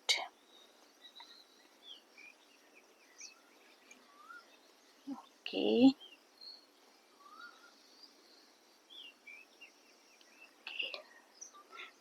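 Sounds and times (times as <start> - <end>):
faint birds chirping: 0.0 - 12.0
low steady hiss: 0.0 - 12.0.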